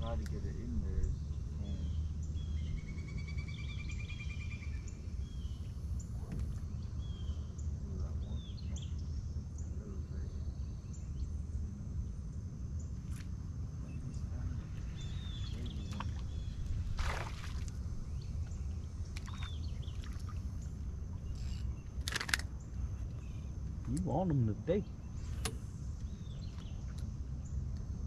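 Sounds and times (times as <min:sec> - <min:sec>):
birds chirping: 0:00.0 - 0:27.8
steady low rumble: 0:00.0 - 0:28.0.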